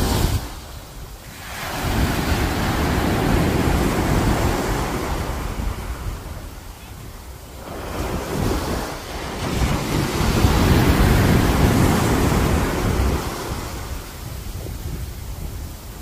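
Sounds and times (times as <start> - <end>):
surf crashing on sandy beach: 0.0 - 16.0.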